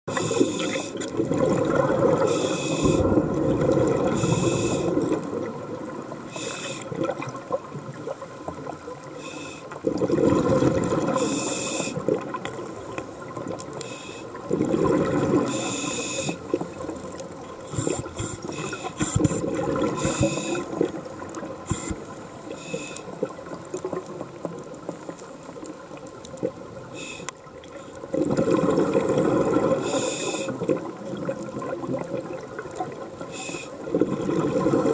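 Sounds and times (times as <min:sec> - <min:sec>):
exhaled bubbles gushing underwater: 0:00.1 - 0:34.9.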